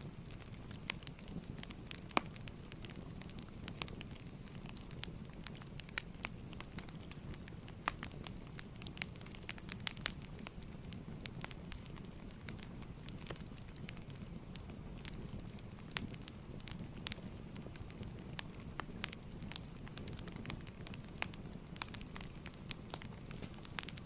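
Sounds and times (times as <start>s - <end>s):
fireplace fire crackling: 0.0s - 24.0s.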